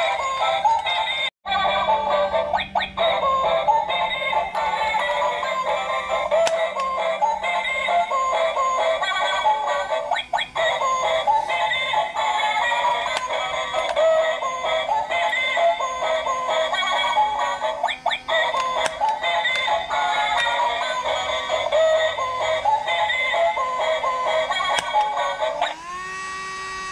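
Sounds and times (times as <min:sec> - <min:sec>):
tinny electronic toy melody: 0:00.0 - 0:26.9
toy clicks: 0:01.8 - 0:26.8.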